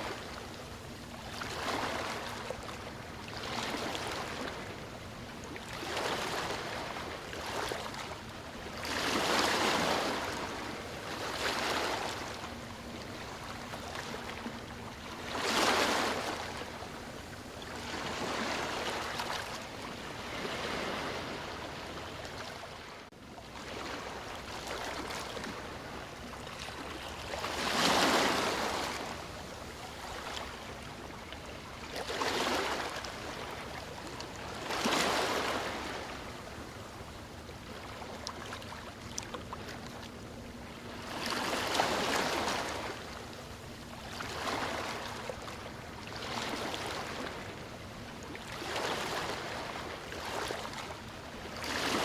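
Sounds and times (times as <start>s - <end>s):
sea waves washing ashore: 0.0s - 52.0s.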